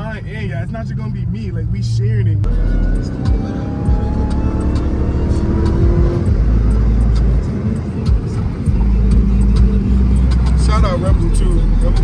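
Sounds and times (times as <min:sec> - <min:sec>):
car engine rumbling: 0:00.0 - 0:12.0
road noise: 0:00.0 - 0:12.0.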